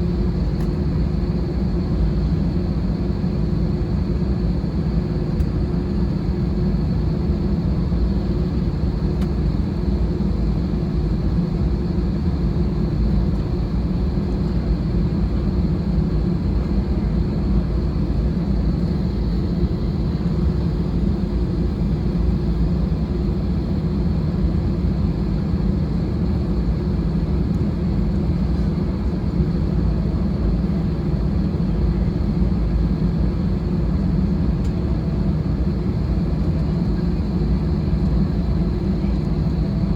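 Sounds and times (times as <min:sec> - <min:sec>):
aircraft cabin rumble and hum: 0:00.0 - 0:39.9.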